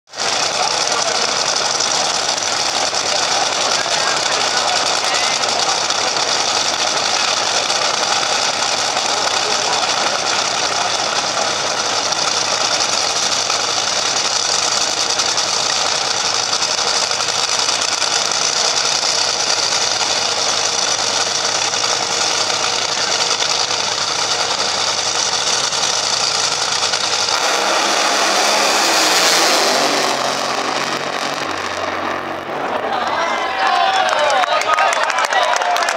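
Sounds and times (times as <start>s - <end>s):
dragster engine rumbling: 0.0s - 35.9s.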